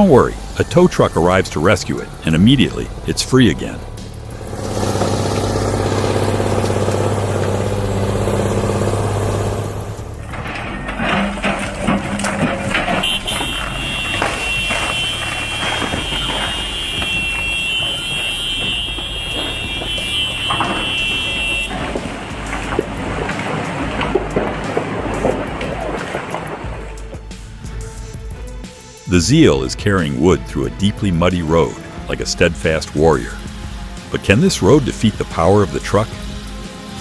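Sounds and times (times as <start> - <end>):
heavy vehicle engine drone: 0.0 - 37.0
rattles and knocks: 0.0 - 37.0.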